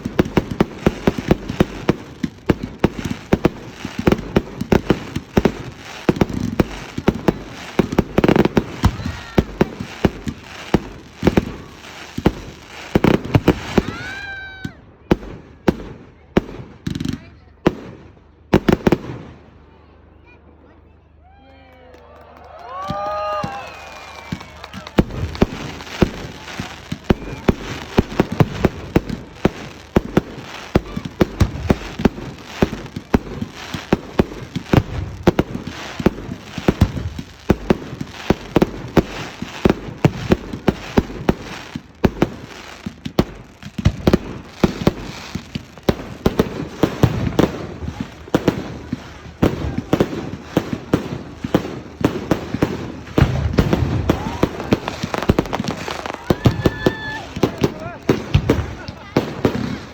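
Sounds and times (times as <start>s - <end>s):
fireworks bangs and crackles: 0.0s - 20.4s, 22.5s - 59.9s.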